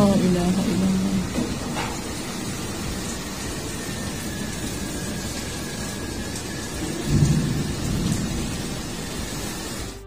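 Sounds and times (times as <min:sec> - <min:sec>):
heavy rain pouring: 0:00.0 - 0:10.0
thunder rumbling: 0:00.0 - 0:10.0.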